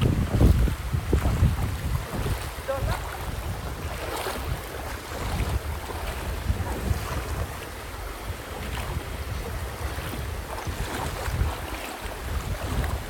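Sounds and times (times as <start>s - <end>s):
stream rushing over rocks: 0.0s - 13.0s
wind buffeting microphone: 0.0s - 13.0s.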